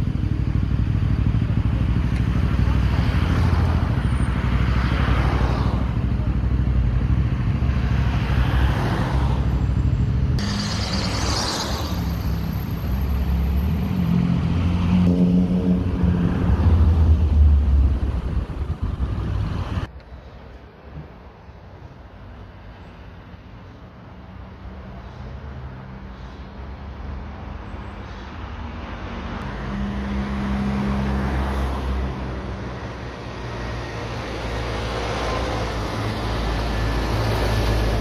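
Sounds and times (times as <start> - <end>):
car engines in slow traffic: 0.0 - 38.0
vehicles passing close by: 0.0 - 38.0.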